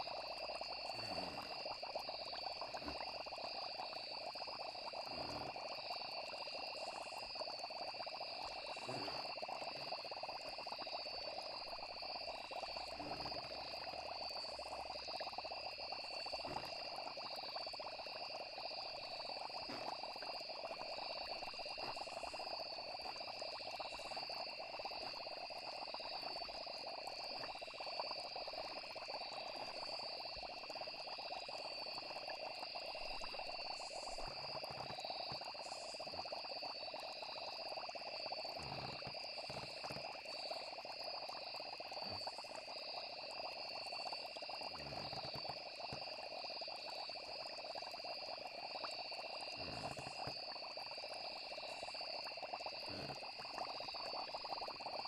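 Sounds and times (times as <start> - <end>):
frogs and insects trilling: 0.0 - 55.0.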